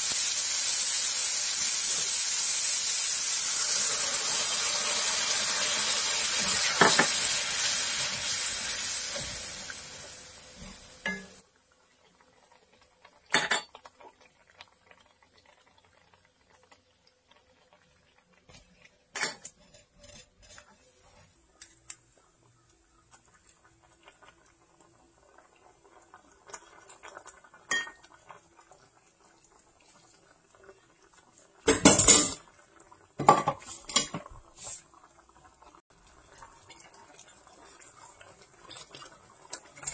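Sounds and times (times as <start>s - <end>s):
liquid sizzling in hot wok: 0.0s - 21.4s, 22.9s - 39.9s.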